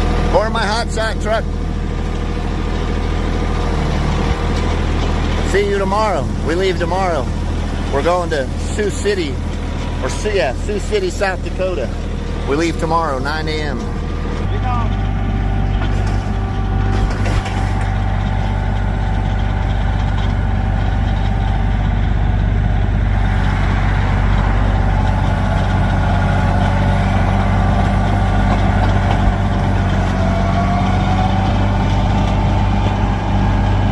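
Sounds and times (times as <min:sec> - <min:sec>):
tractor engine humming: 0:00.0 - 0:33.9.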